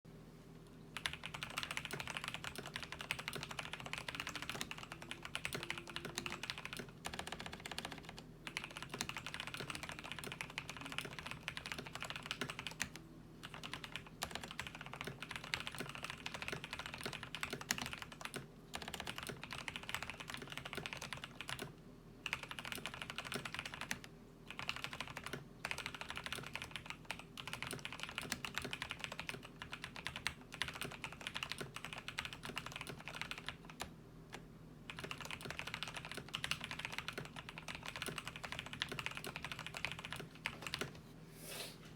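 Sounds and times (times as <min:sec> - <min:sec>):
mechanical keyboard typing: 0:01.0 - 0:40.9.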